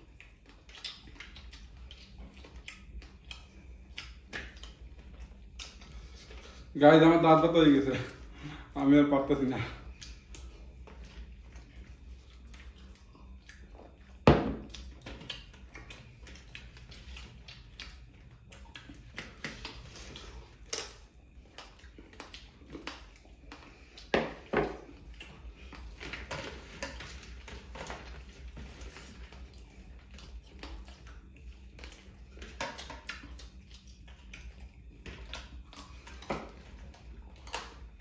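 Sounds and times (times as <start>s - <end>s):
chewing: 0.0s - 6.8s, 7.5s - 38.0s.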